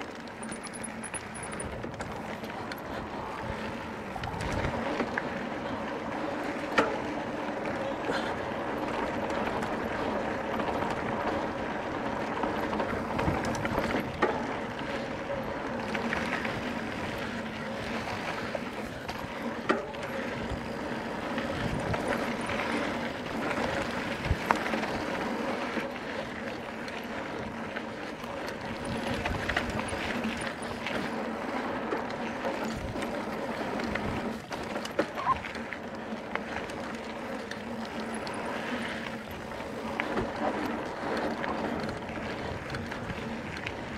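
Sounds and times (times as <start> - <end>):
bike tyres rumbling on dirt: 0.0 - 43.9.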